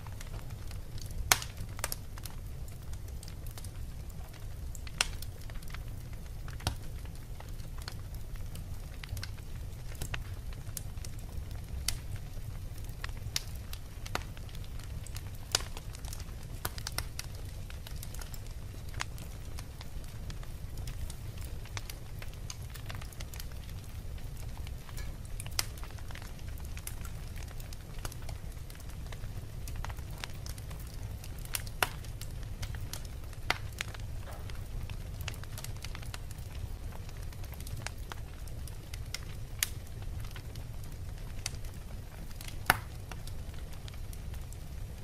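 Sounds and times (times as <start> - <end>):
fire crackling and popping: 0.0 - 45.0
low rumble of flame: 0.0 - 45.0.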